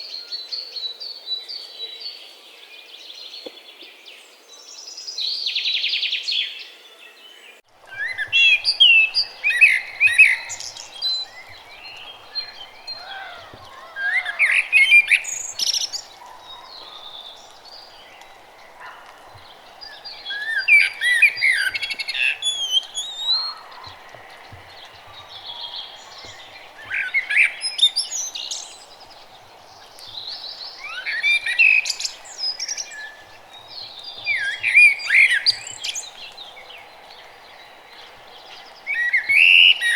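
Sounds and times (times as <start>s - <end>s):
songbirds warbling: 7.2s - 39.9s.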